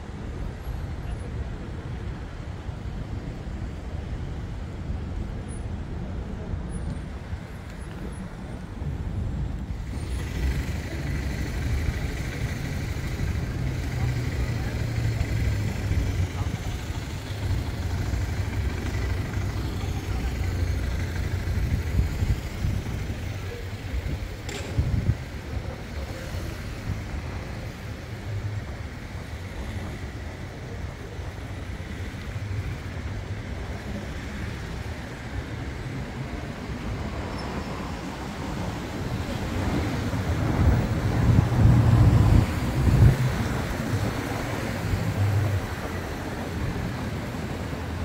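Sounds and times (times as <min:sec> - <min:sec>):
road traffic hum: 0:00.0 - 0:48.0.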